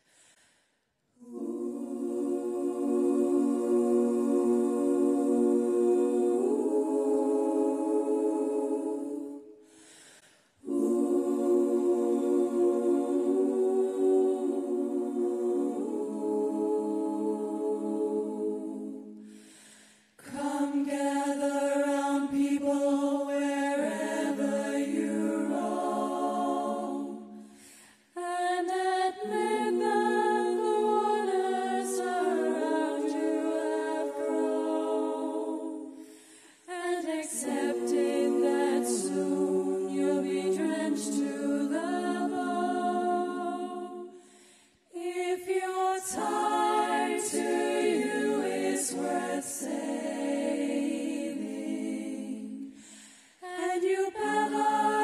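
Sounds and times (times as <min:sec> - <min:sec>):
women singing a cappella: 0:01.1 - 0:55.0.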